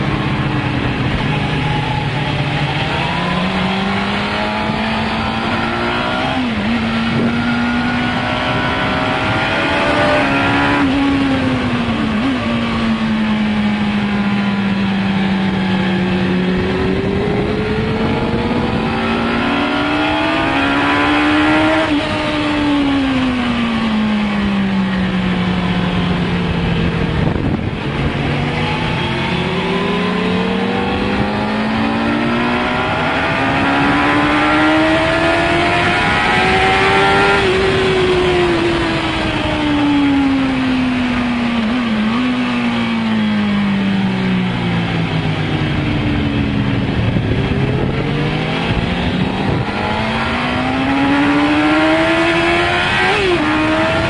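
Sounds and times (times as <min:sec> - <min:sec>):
wind rush: 0:00.0 - 0:14.3, 0:14.9 - 0:43.1, 0:44.3 - 0:54.0
motorcycle engine running hard: 0:00.0 - 0:54.0.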